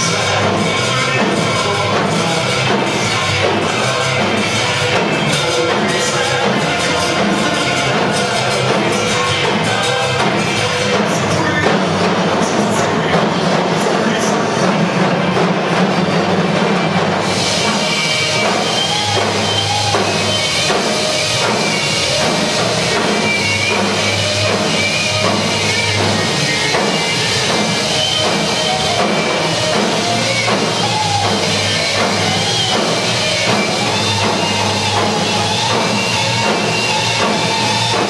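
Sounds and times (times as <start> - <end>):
drumline percussion: 0.0 - 38.0
rock backing track: 0.0 - 38.0.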